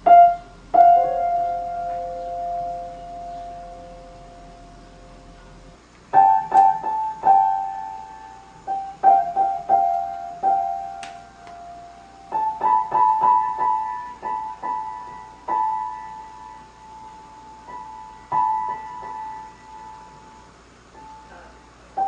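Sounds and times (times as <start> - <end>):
piano keys struck: 0.0 - 22.0.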